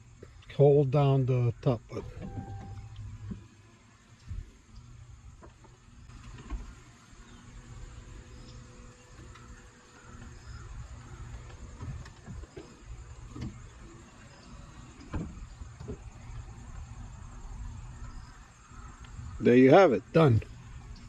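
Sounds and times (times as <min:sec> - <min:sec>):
car roof mechanism whirring: 0:01.4 - 0:21.0.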